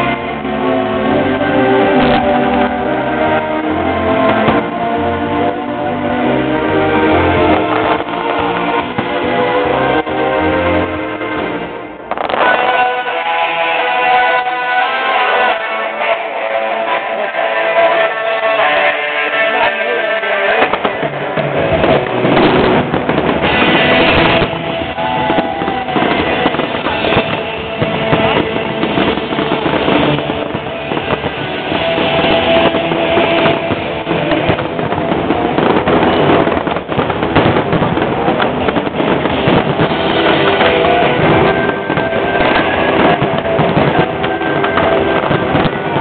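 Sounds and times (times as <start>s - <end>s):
fireworks bangs and crackle: 0.0s - 46.0s
music playing: 0.0s - 46.0s.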